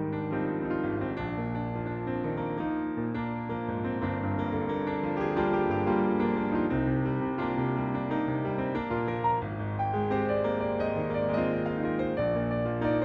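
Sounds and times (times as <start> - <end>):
piano playing chords and melody: 0.0 - 13.0.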